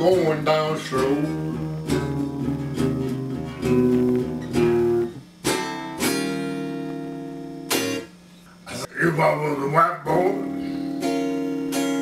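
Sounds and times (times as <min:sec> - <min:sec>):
electric guitar blues riff: 0:00.0 - 0:12.0.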